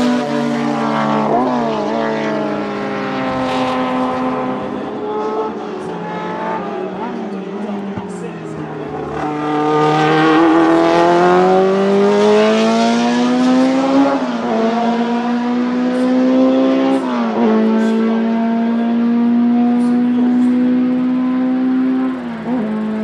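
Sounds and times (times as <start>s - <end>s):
racing engine at high revs: 0.0s - 23.0s.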